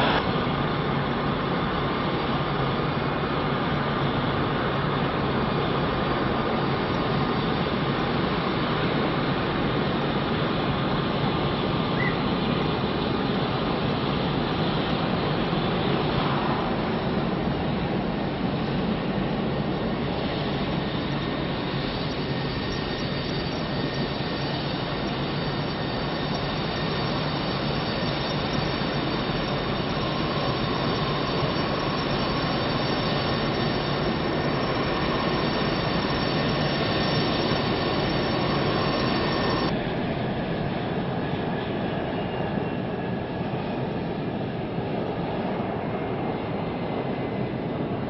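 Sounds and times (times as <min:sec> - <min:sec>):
jet engine rushing and whining: 0:00.0 - 0:48.0.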